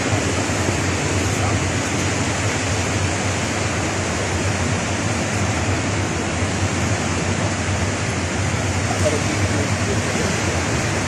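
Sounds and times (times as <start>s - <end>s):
boat motor humming: 0.0s - 11.0s
water washing around hull: 0.0s - 11.0s.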